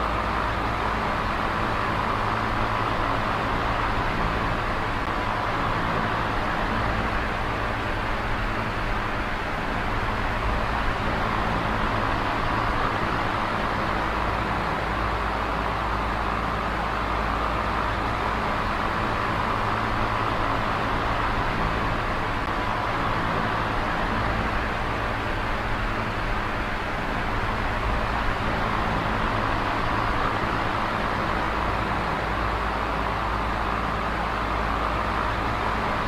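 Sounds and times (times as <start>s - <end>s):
electric fan whooshing air: 0.0s - 36.0s.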